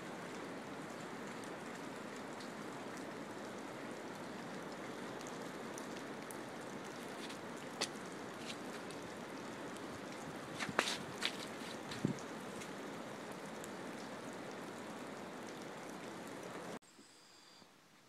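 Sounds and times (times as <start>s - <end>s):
hiss of falling precipitation: 0.0s - 18.0s.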